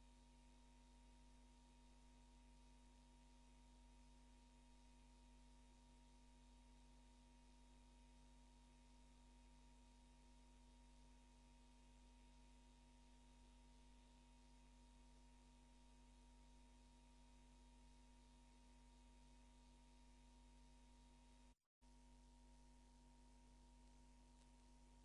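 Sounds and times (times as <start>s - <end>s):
faint hum and hiss: 0.0s - 25.0s.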